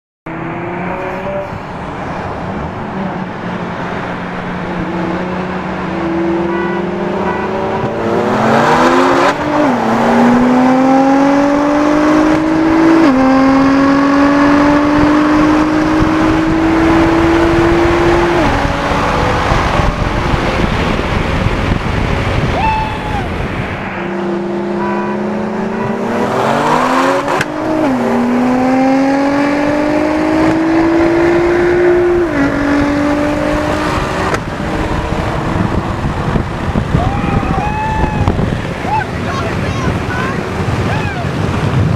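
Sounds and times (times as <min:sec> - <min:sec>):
car engine accelerating: 0:00.3 - 0:39.4.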